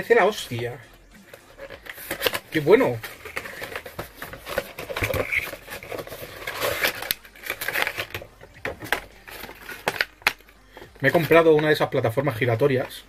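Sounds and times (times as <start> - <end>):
cardboard and plastic rustling: 1.3 - 13.0.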